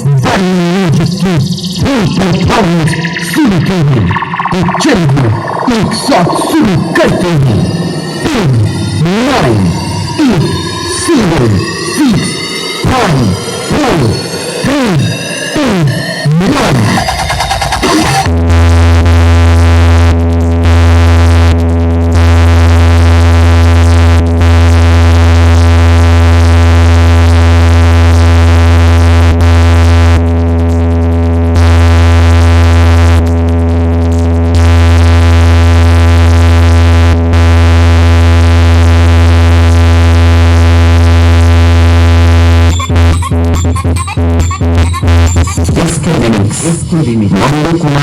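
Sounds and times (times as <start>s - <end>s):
synthesizer bass drone: 0.0s - 48.0s.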